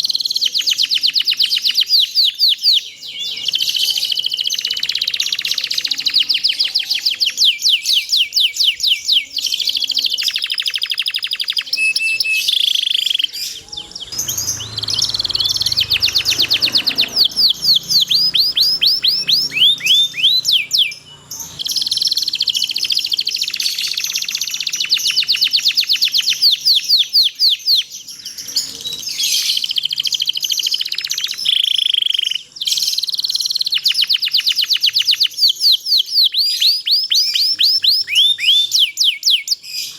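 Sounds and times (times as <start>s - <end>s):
canary singing in trills: 0.0s - 39.9s.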